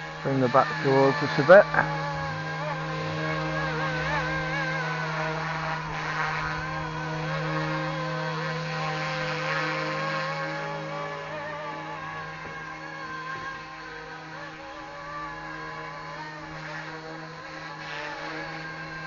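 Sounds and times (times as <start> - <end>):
rc helicopter motor and rotors: 0.0 - 19.0
wavering whine: 0.0 - 19.0.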